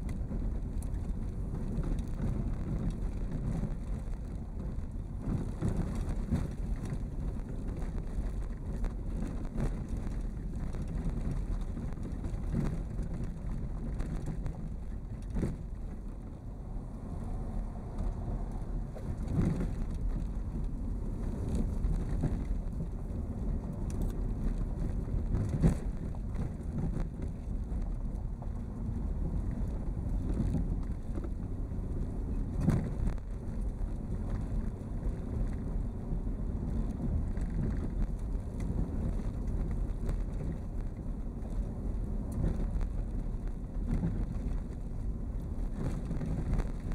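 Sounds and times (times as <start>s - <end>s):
tyres rumbling on road: 0.0s - 46.9s
wind on microphone: 0.0s - 46.9s.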